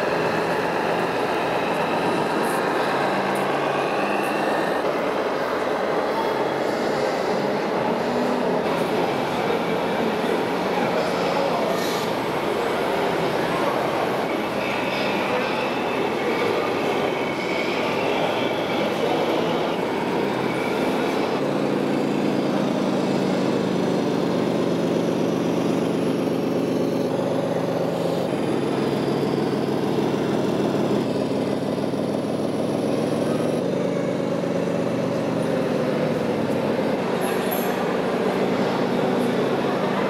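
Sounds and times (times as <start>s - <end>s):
electronic diesel engine sound: 0.0s - 40.0s.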